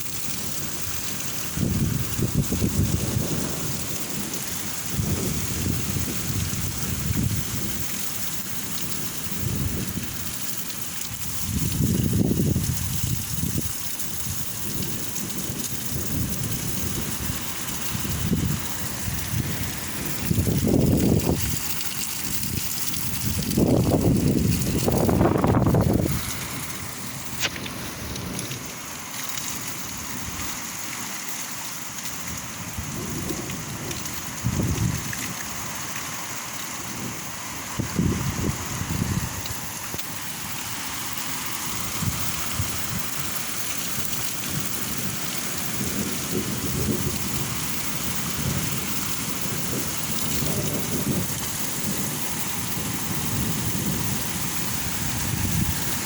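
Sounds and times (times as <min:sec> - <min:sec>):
steady hiss: 0:00.0 - 0:56.0
wind buffeting microphone: 0:00.2 - 0:30.8, 0:32.2 - 0:56.0.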